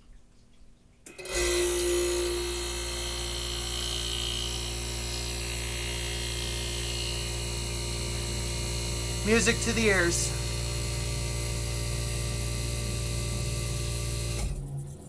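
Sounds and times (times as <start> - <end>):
air conditioner compressor humming: 1.0 - 15.0.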